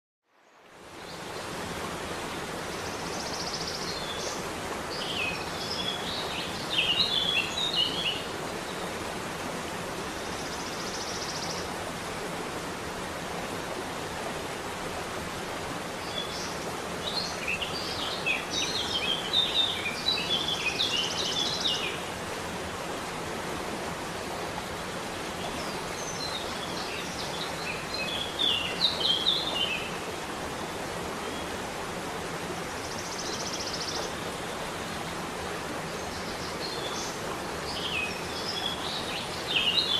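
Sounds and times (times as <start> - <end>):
falling water rushing: 0.7 - 39.9.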